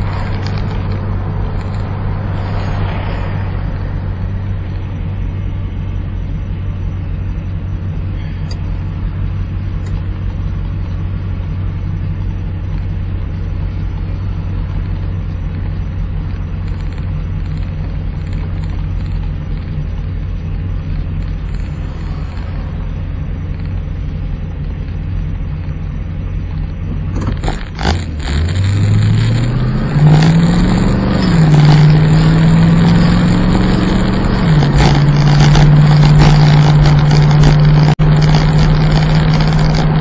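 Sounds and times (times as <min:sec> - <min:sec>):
car engine drone: 0:00.0 - 0:40.0
road and tyre noise: 0:00.0 - 0:40.0.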